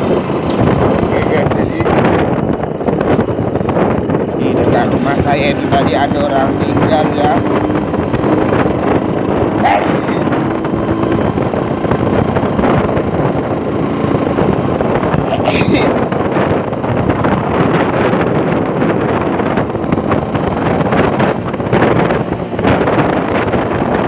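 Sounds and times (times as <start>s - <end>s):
two-stroke motorcycle running: 0.0s - 24.0s
wind buffeting microphone: 0.0s - 24.0s.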